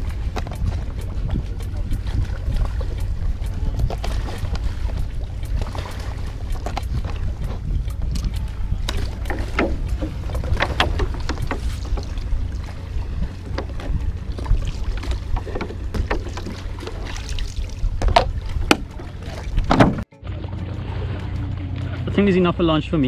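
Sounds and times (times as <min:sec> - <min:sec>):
wind on microphone: 0:00.0 - 0:21.7
water splashing: 0:00.0 - 0:23.0.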